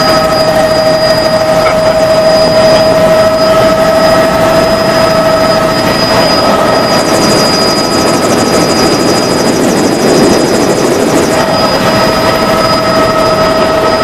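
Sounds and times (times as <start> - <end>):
fast chopping rotor flutter: 0.0 - 14.0
helicopter turbine and rotor noise: 0.0 - 14.0
high steady whine: 0.0 - 14.0.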